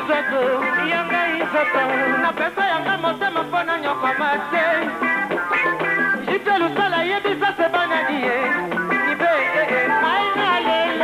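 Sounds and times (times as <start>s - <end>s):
rumba band music: 0.0s - 11.0s.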